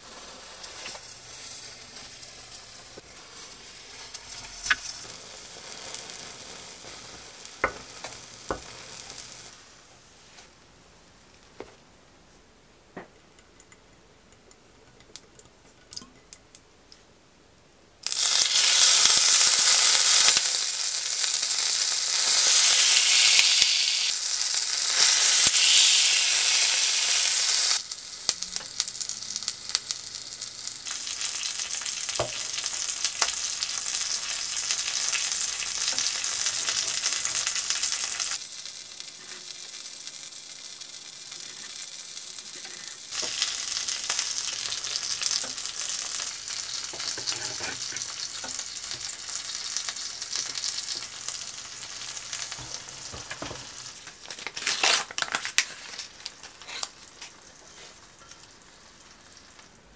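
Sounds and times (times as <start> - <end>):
roe sizzling in hot oil: 0.0 - 9.7, 18.0 - 59.9.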